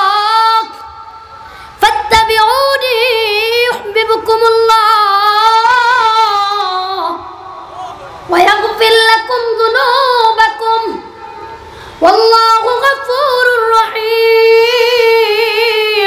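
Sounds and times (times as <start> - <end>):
boy chanting: 1.8 - 11.1, 12.0 - 16.0.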